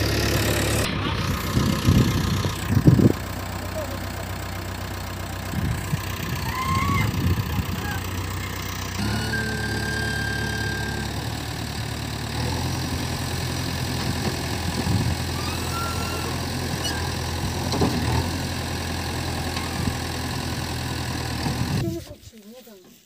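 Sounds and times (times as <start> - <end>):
diesel engine running: 0.0 - 22.1.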